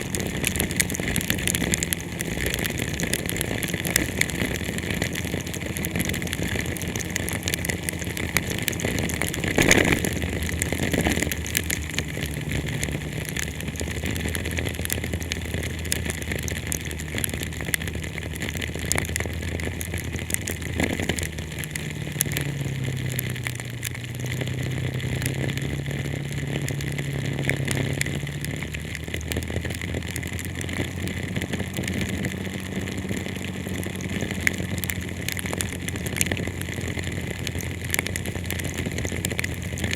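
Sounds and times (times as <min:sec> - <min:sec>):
heavy rain on car: 0:00.0 - 0:39.9
low engine hum: 0:00.0 - 0:39.9.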